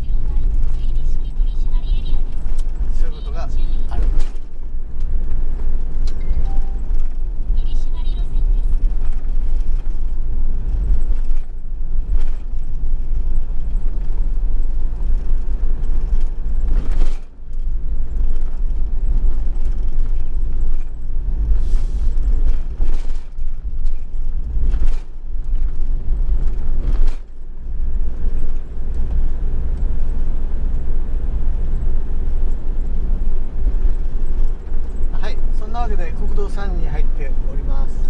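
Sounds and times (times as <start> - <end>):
van road noise rumble: 0.0 - 38.0.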